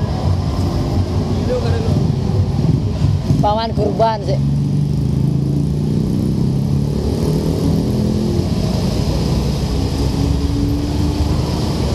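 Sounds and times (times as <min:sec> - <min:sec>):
car engines passing: 0:00.0 - 0:11.9
tyre and road noise: 0:00.0 - 0:11.9.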